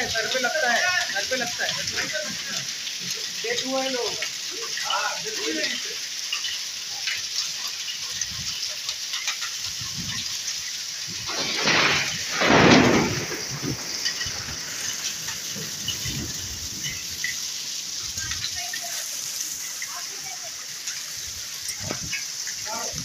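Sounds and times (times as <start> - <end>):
hail and rain falling: 0.0 - 23.0
hailstones ticking: 0.0 - 23.0.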